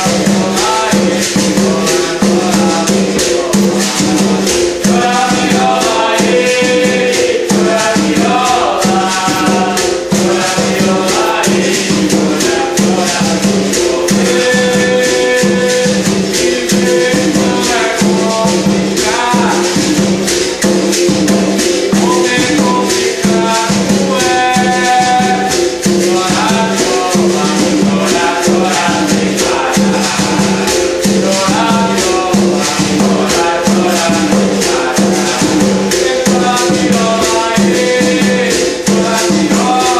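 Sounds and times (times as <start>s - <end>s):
berimbau played rhythmically: 0.0s - 39.9s
hand drum: 0.0s - 39.9s
shaken rattle: 0.0s - 39.9s
voices singing: 0.0s - 39.9s.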